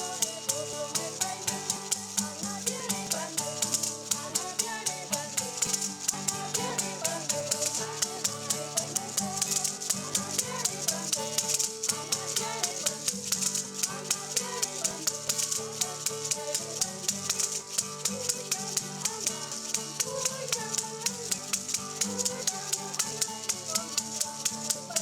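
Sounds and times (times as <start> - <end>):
shaker beat: 0.0 - 25.0.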